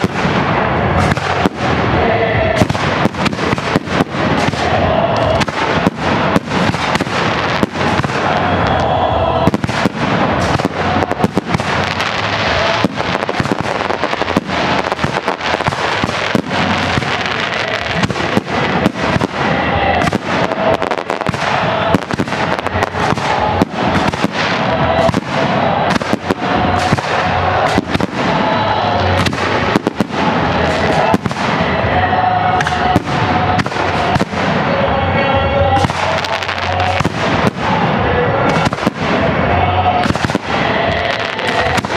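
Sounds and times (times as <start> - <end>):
fireworks bangs: 0.0 - 41.9
fireworks crackle: 0.0 - 41.9.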